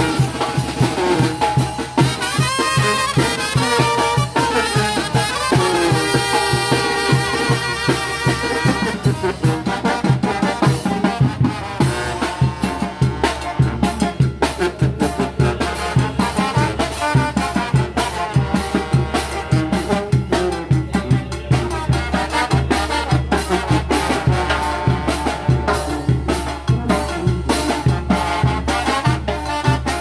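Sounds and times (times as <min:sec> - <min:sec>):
brass band melody: 0:00.0 - 0:30.0
driving drum beat: 0:00.0 - 0:30.0.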